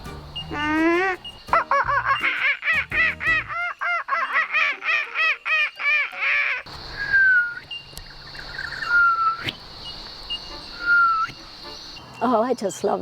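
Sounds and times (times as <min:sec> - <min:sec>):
high insect drone: 0:00.0 - 0:12.6
honking bird calls: 0:00.4 - 0:12.3
whistled bird calls: 0:00.4 - 0:12.3.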